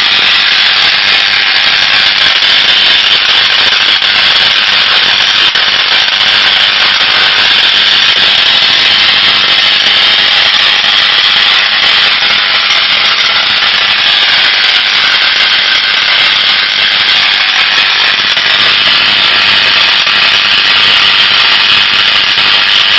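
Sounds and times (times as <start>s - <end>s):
tesla coil buzzing: 0.0s - 22.9s.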